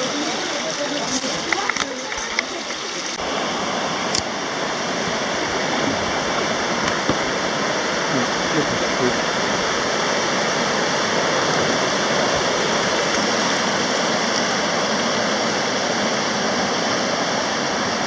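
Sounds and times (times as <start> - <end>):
river water rushing over rapids: 0.0 - 18.0.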